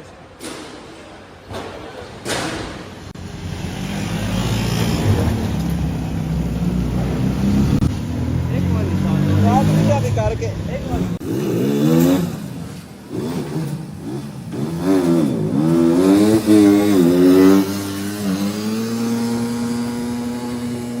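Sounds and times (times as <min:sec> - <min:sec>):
rickshaw engine revving: 0:03.0 - 0:21.0.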